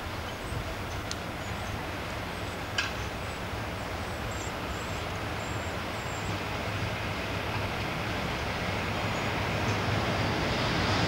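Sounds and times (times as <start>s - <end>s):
diesel locomotive engine hum: 0.0s - 11.0s.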